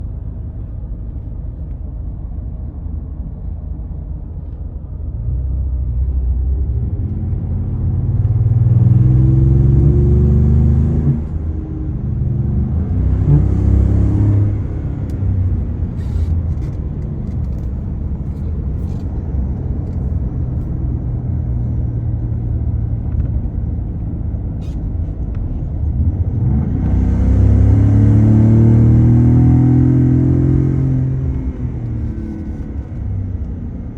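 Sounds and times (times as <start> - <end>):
truck engine accelerating: 5.0 - 33.9.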